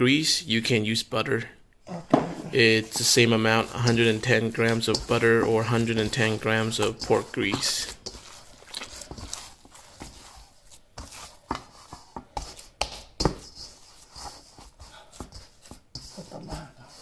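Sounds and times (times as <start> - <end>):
dough thudding in a steel bowl: 2.1 - 16.1.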